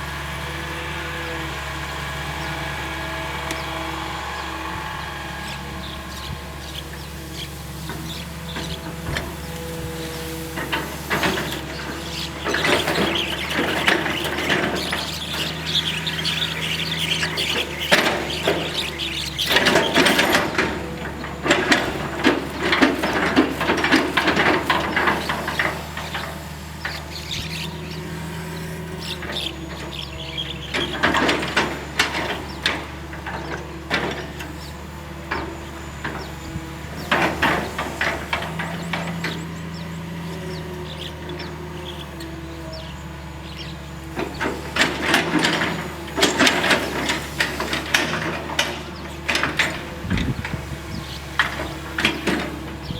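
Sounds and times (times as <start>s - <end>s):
excavator diesel engine running: 0.0s - 52.9s
squealing clicking and knocking: 2.4s - 52.9s.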